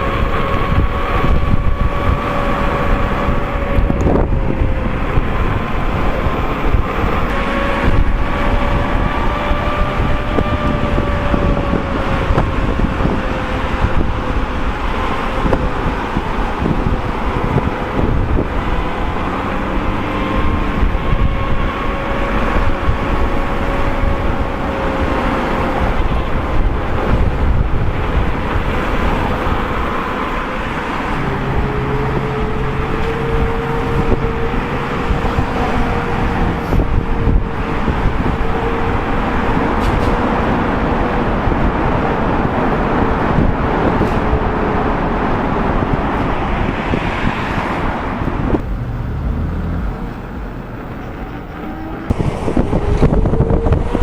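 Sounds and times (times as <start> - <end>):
passing traffic: 0.0 - 54.0
tire humming on road: 0.0 - 54.0
wind on microphone: 0.0 - 54.0.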